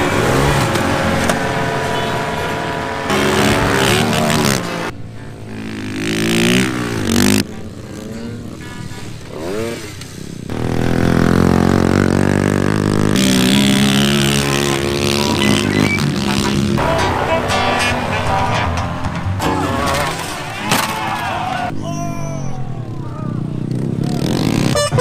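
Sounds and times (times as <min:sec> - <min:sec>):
motorcycle engines revving and passing: 0:00.0 - 0:25.0.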